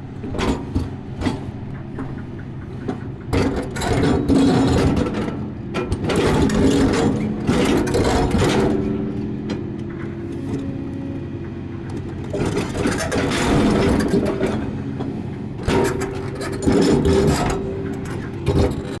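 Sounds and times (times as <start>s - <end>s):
diesel engine running: 0.0s - 19.0s
machine clattering and knocking: 0.2s - 19.0s.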